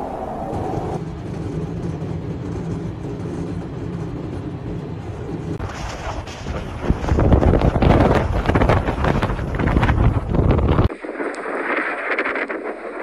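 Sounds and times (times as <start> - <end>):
blizzard wind buffeting microphone: 0.0 - 13.0.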